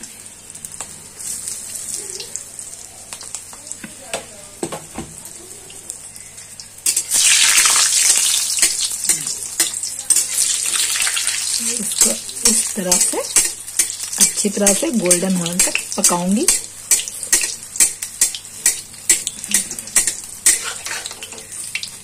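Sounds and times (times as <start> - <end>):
deep-frying sizzle with pops: 0.0 - 22.0.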